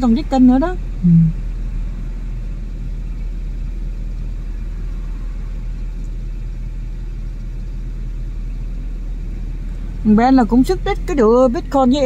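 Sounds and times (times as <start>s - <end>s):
low rumble in car cabin: 0.0s - 12.0s
traffic hum: 0.0s - 12.0s.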